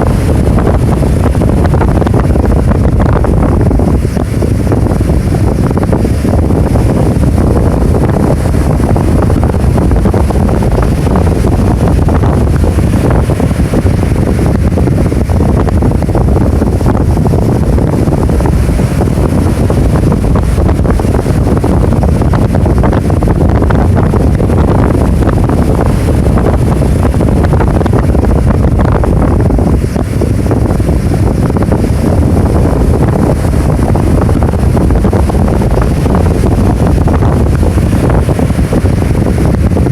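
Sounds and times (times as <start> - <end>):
heavy surf breaking: 0.0 - 39.9
wind blowing across microphone: 0.0 - 39.9.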